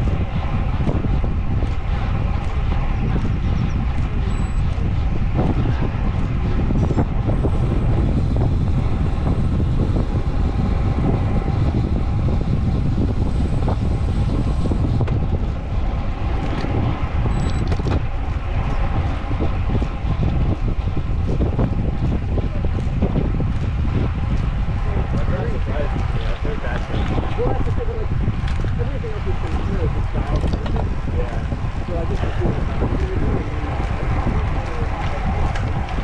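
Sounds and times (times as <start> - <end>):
wind rushing over microphone: 0.0 - 36.0.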